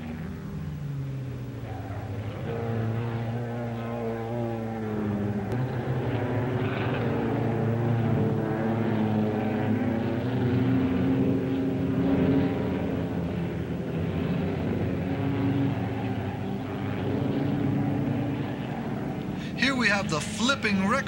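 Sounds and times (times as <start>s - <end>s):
race car engines droning: 0.0s - 21.0s.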